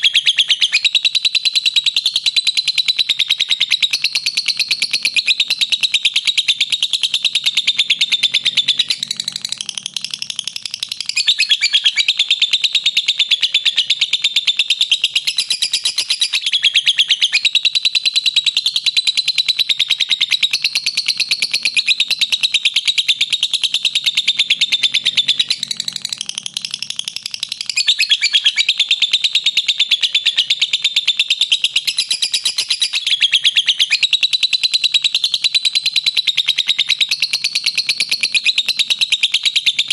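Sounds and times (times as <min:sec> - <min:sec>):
lovebird shrill chirps: 0:00.0 - 0:18.2, 0:18.8 - 0:39.9.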